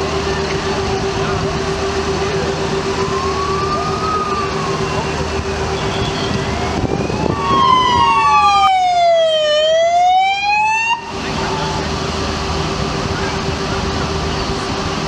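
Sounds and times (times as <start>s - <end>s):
police siren wailing: 0.0s - 12.1s
vehicle noise: 0.0s - 15.0s.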